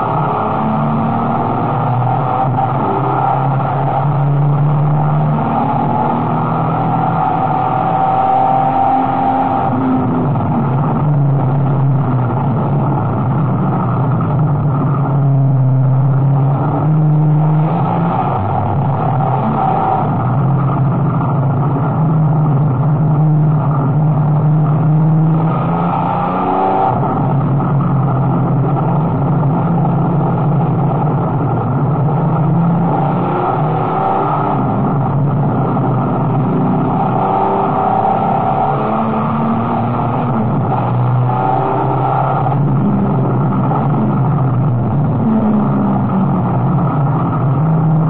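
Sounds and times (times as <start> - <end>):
race car engine running hard: 0.0 - 48.0.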